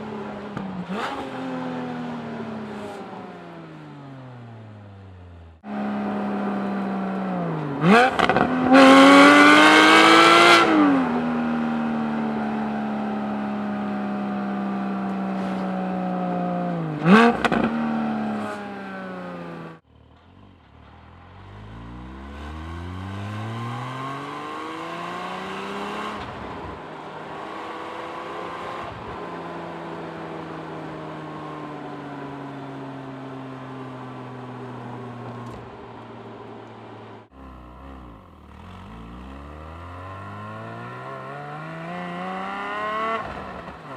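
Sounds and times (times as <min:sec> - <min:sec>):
sports car engine and exhaust: 0:00.0 - 0:43.9.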